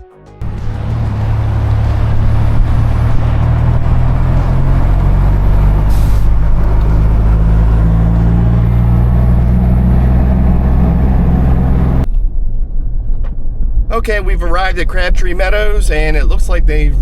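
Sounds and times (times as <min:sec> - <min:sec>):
tyre and wind noise: 0:00.4 - 0:14.4
car engine drone: 0:00.4 - 0:17.0.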